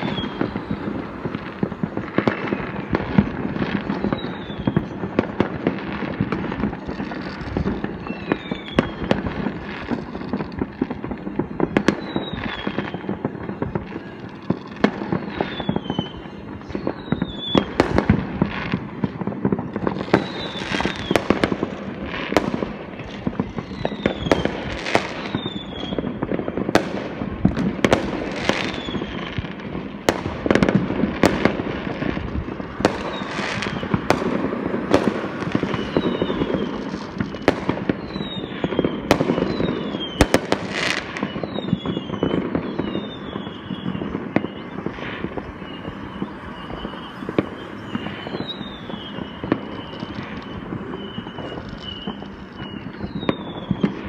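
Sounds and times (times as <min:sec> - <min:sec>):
falling firework whistles: 0:00.0 - 0:54.0
fireworks bangs: 0:00.0 - 0:54.0
fireworks crackling: 0:00.0 - 0:54.0.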